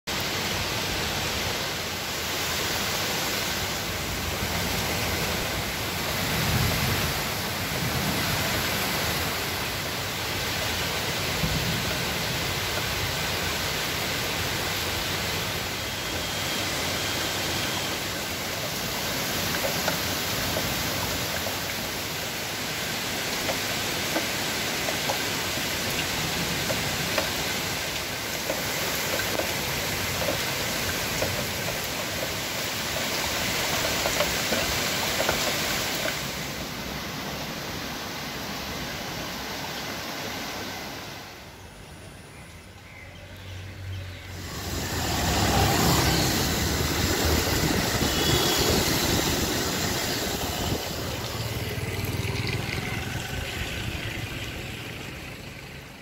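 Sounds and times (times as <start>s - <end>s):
torrential rain pouring: 0.1s - 56.0s.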